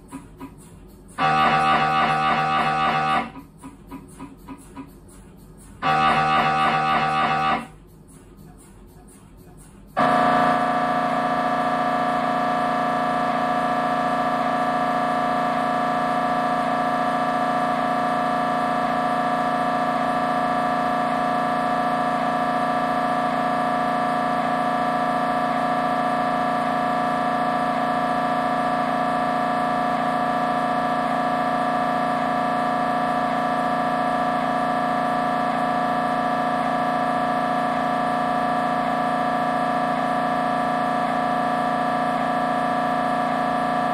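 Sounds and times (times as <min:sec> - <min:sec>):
mri scanner buzzing: 0:00.0 - 0:09.1, 0:09.8 - 0:43.9.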